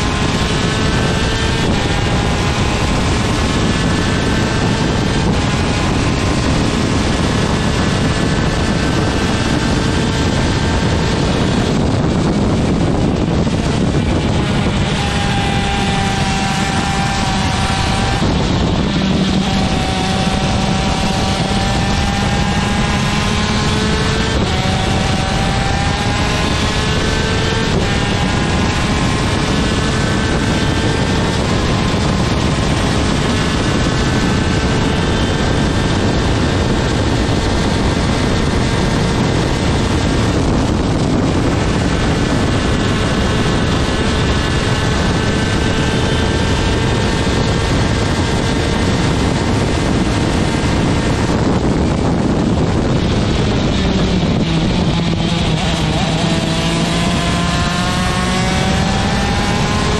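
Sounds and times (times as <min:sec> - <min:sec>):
two-stroke kart engine racing: 0:00.0 - 0:59.9
wind noise: 0:00.0 - 0:59.9.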